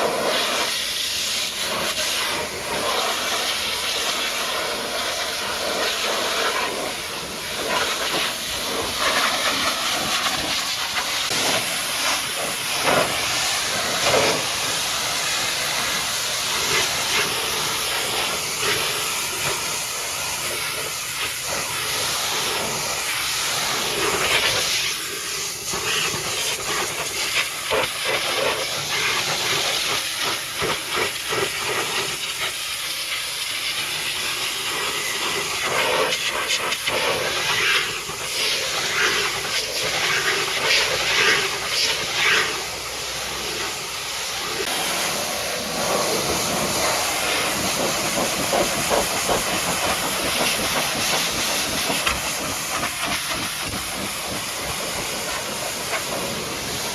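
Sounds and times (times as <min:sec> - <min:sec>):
pressure washer spraying: 0:00.0 - 0:56.9.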